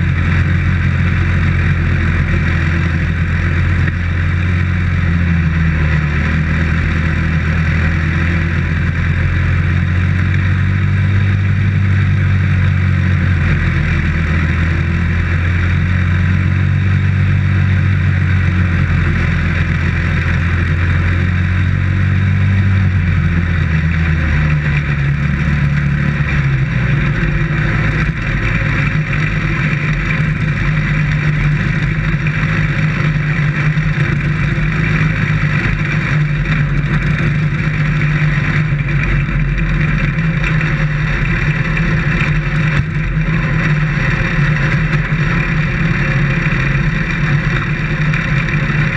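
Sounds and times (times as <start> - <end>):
race car engine running hard: 0.0 - 48.9.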